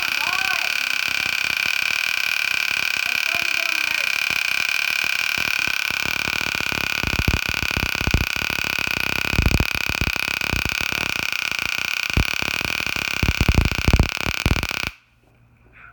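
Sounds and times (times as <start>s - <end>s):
high-pitched whine: 0.0s - 14.9s
electric snaps: 0.0s - 15.0s
stun gun electric crackle: 0.0s - 15.0s.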